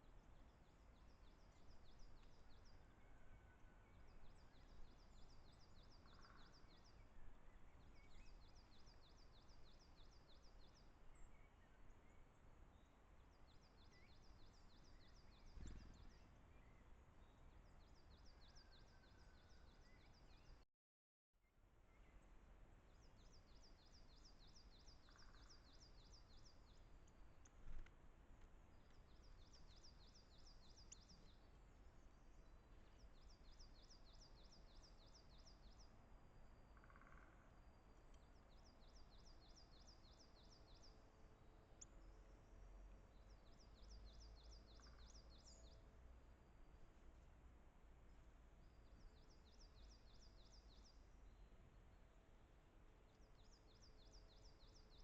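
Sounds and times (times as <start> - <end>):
distant songbird singing: 0.0 - 20.6, 21.4 - 45.9, 48.6 - 51.6, 53.0 - 55.0
faint forest background noise: 0.0 - 20.7, 21.4 - 55.0.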